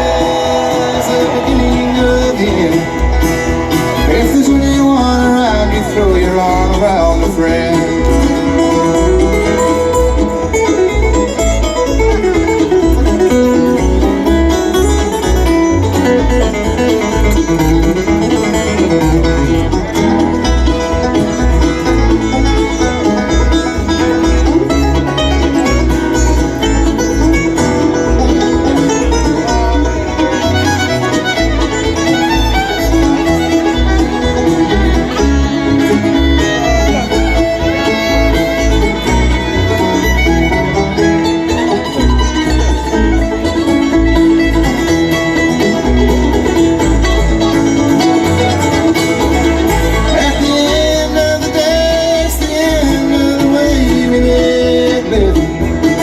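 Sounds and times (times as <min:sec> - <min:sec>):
banjo: 0:00.0 - 0:56.0
fiddle: 0:00.0 - 0:56.0
guitar: 0:00.0 - 0:56.0.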